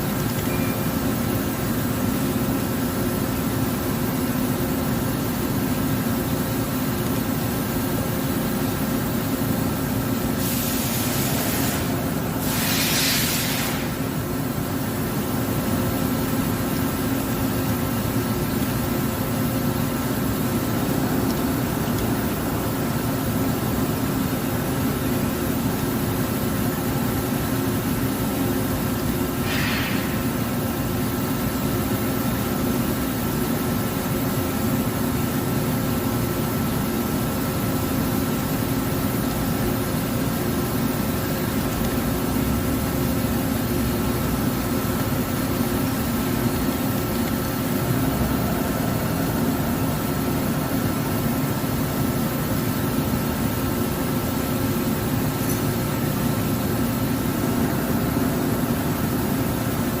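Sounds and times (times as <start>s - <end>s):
lathe machine hum with whine: 0.0s - 60.0s.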